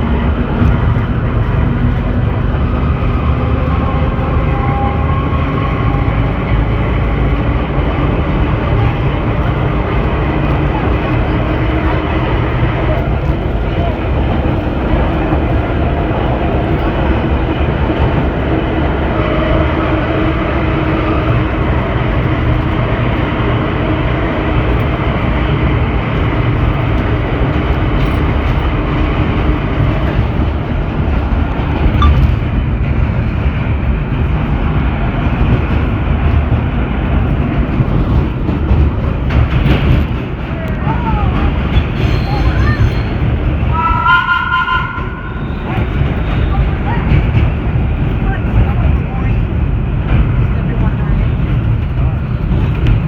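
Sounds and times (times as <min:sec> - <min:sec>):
subway car wheels rumbling on rail: 0:00.0 - 0:53.0.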